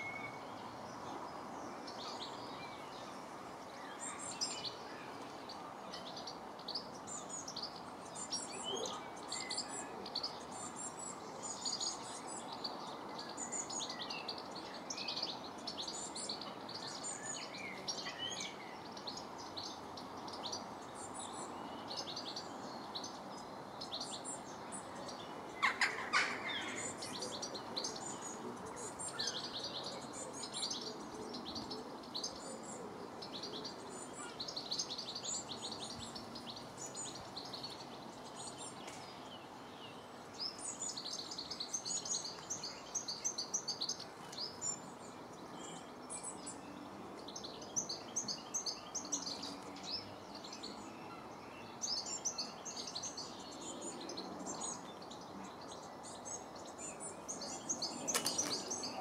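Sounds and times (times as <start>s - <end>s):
birds chirping and singing: 4.0s - 59.0s.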